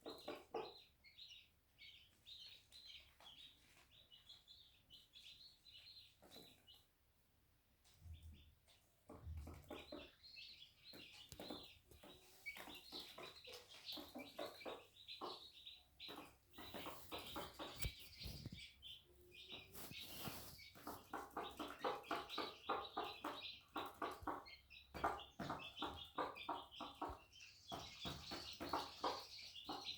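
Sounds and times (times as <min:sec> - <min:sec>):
chicks peeping: 0:00.0 - 0:29.9.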